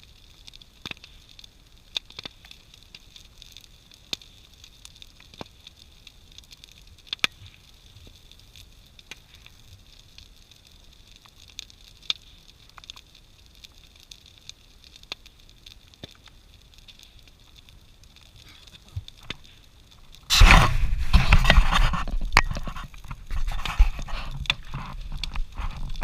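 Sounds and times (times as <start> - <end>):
bonfire crackling and popping: 0.0 - 26.0
faint steady hiss: 0.0 - 26.0.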